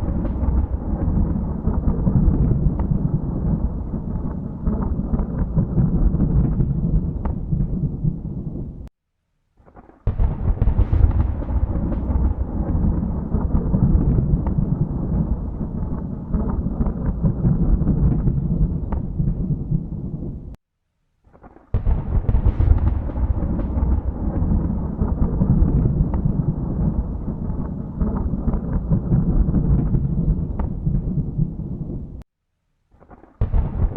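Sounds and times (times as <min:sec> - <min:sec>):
loud thunder peal: 0:00.0 - 0:08.8, 0:10.1 - 0:20.5, 0:21.7 - 0:32.2, 0:33.4 - 0:33.9
thunder rumbling: 0:00.0 - 0:08.9, 0:10.1 - 0:20.6, 0:21.7 - 0:32.2, 0:33.4 - 0:33.9.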